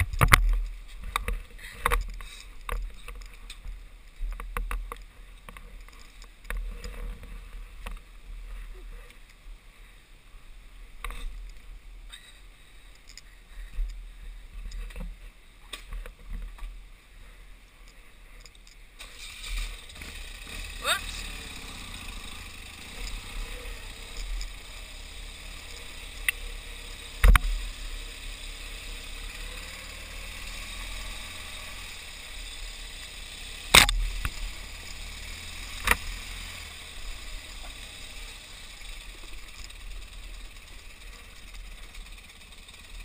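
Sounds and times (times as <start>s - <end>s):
motorcycle engine rumble: 0.0s - 43.0s.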